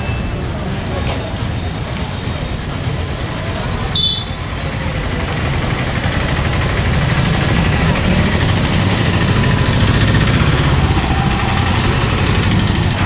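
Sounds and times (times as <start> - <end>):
street rumble: 0.0 - 13.0.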